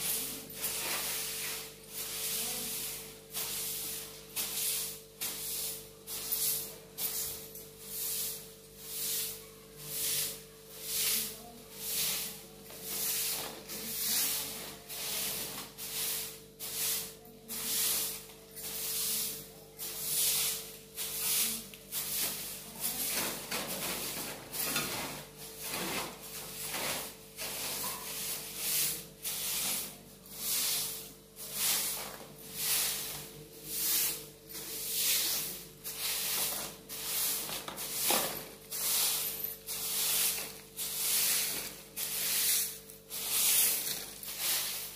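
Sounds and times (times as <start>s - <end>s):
broom sweeping cement floor: 0.0s - 44.9s.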